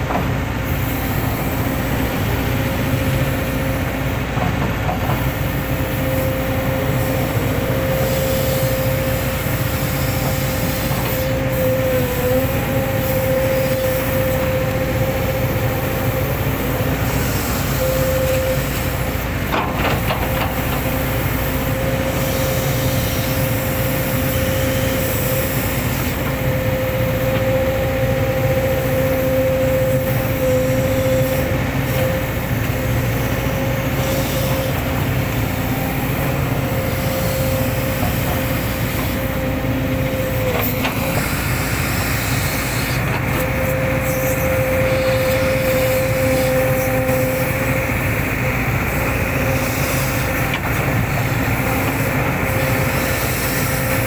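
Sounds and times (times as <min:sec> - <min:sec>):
constant whining tone: 0:00.0 - 0:54.0
excavator engine and hydraulics: 0:00.0 - 0:54.0.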